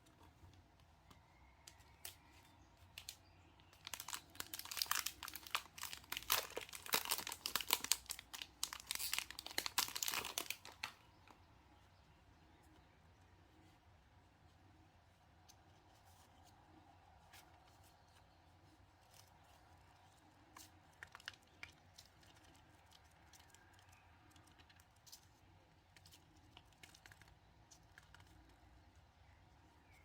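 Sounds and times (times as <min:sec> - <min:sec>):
quiet room hum: 0:00.0 - 0:30.0.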